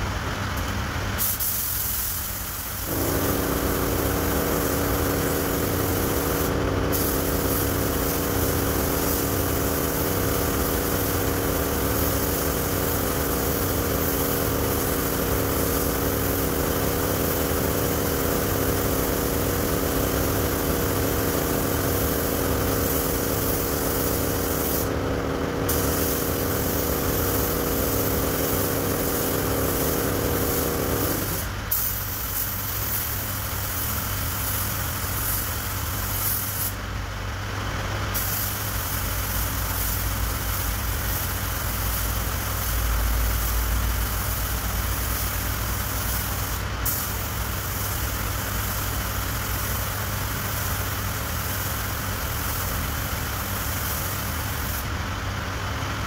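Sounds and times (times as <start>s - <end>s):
spray gun hissing: 1.2s - 36.8s, 38.2s - 54.9s.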